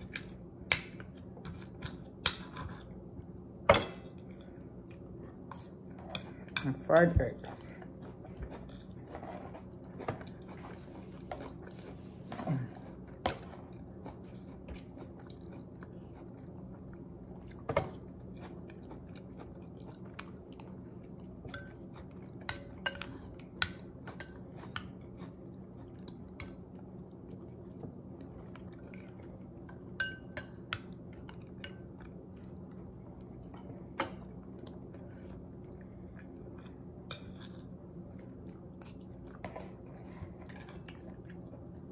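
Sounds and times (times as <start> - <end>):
person chewing food: 0.0 - 6.6, 7.4 - 41.9
steady low hum: 0.0 - 41.9.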